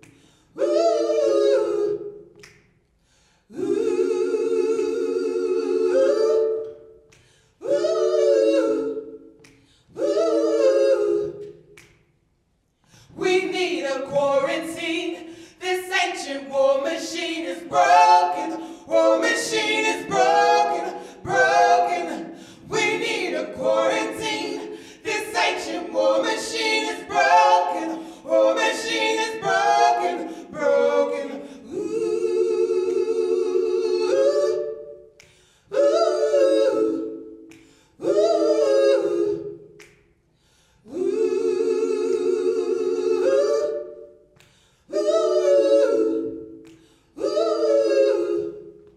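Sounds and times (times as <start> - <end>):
women singing a cappella harmony: 0.0 - 12.1, 12.8 - 48.9.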